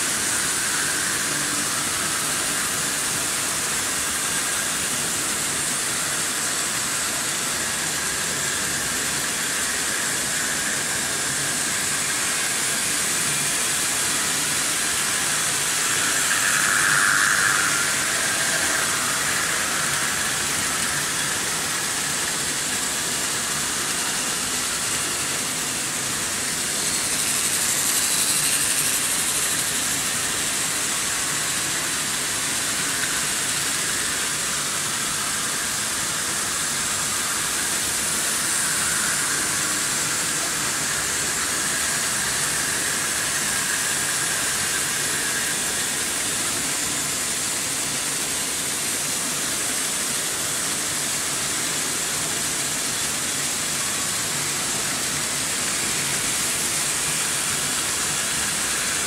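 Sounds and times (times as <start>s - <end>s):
model trains rolling on track: 0.0s - 59.0s.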